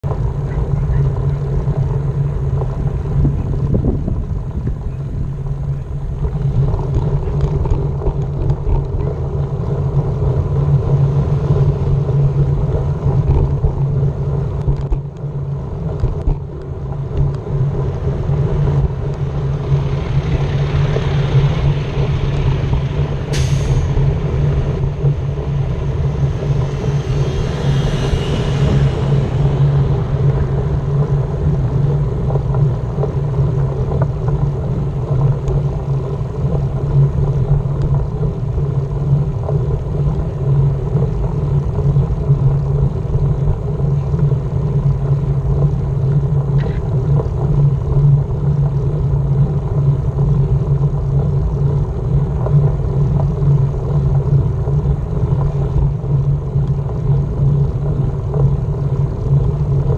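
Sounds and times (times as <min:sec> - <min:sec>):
road and wind noise: 0:00.0 - 0:59.9
vehicle engine humming: 0:00.0 - 0:59.9.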